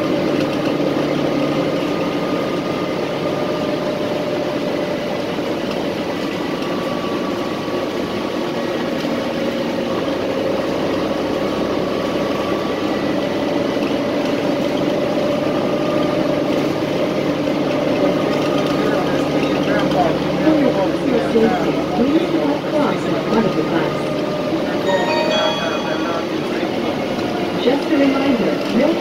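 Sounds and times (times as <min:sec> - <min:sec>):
bus engine hum: 0:00.0 - 0:29.0.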